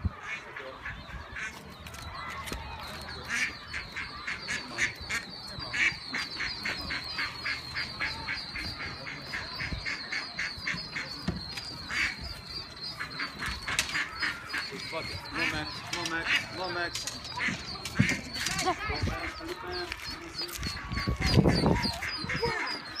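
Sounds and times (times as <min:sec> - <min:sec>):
ducklings peeping: 0:00.0 - 0:23.0
duck calling: 0:00.2 - 0:23.0.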